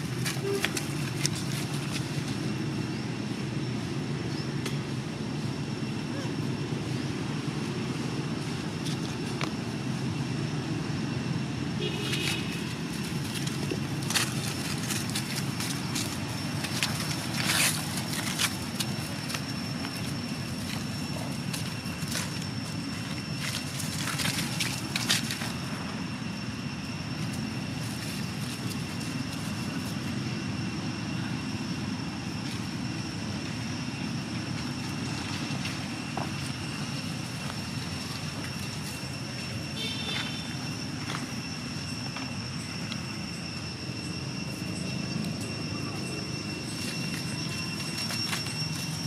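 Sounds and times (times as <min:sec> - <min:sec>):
monkeys scuffling in dry leaves: 0:00.0 - 0:04.1, 0:11.6 - 0:49.0
high-pitched whine: 0:00.0 - 0:49.0
low outdoor rumble: 0:00.0 - 0:49.0.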